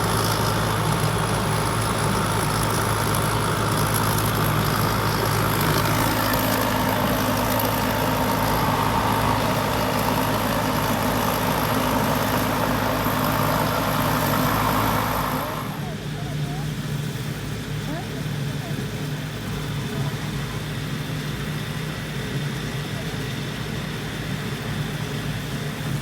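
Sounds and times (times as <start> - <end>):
diesel engine humming: 0.0 - 22.3.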